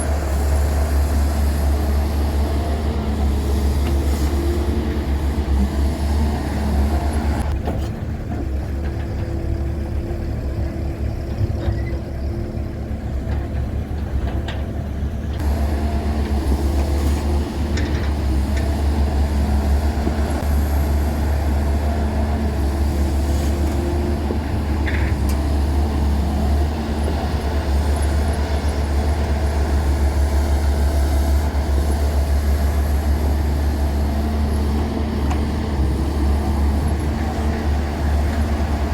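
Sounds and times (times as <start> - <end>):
heavy diesel engine drone: 0.0 - 38.9.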